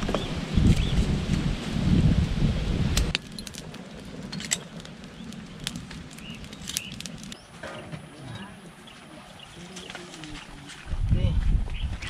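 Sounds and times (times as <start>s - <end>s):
wind rumble on microphone: 0.0s - 7.4s, 9.3s - 12.0s
fire crackling: 0.0s - 10.7s.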